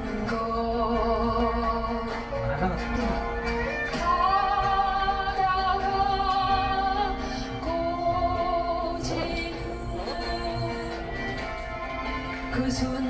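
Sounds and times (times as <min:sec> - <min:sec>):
instrumental accompaniment: 0:00.0 - 0:13.0
woman singing a ballad: 0:00.0 - 0:13.0.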